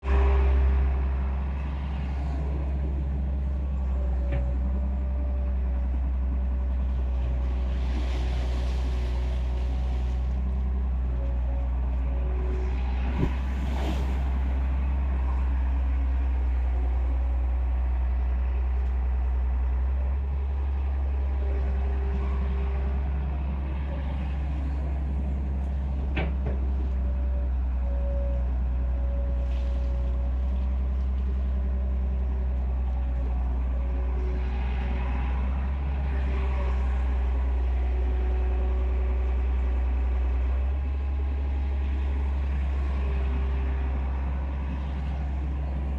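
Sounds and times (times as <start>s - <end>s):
excavator diesel engine droning: 0.0s - 45.9s.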